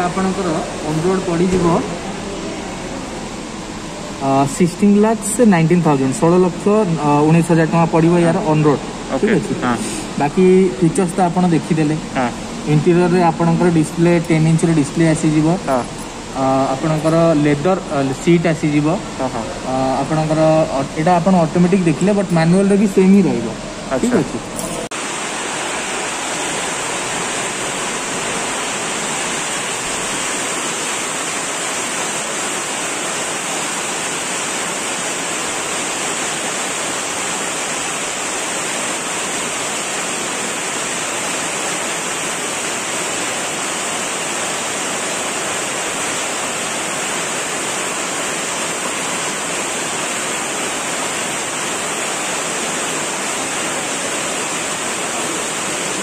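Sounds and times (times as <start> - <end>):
steady rushing hiss: 0.0 - 56.0.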